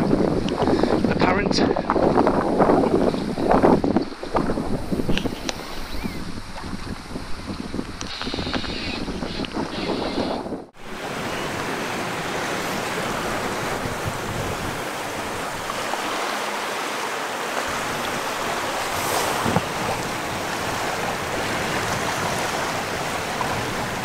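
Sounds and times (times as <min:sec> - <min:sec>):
wind and water rushing: 0:00.0 - 0:24.0
wind buffeting microphone: 0:00.0 - 0:24.0.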